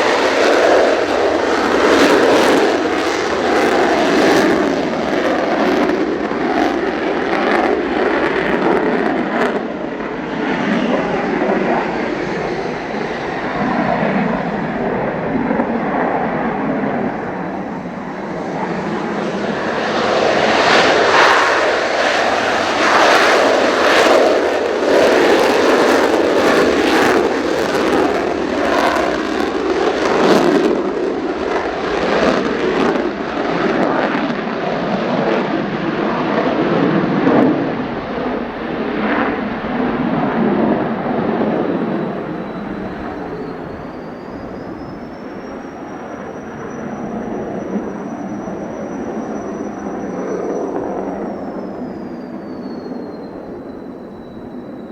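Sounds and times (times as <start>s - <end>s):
wind buffeting microphone: 0.0s - 30.8s, 35.2s - 54.9s
jet engine roaring: 0.0s - 54.9s.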